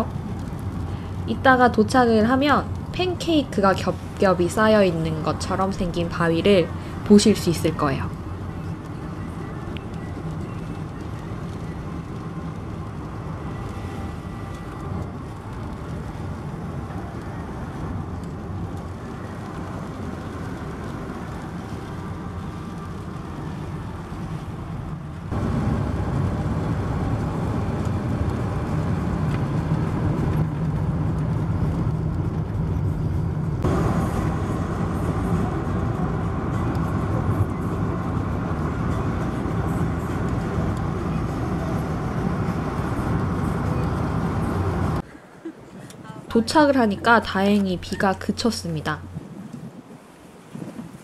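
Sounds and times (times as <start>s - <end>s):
road and engine noise in car: 0.0s - 51.0s.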